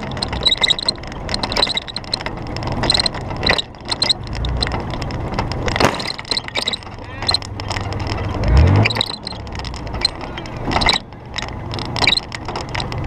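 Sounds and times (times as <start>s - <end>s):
car engine running: 0.0s - 13.0s
knocks and rattles from bumpy ride: 0.0s - 13.0s.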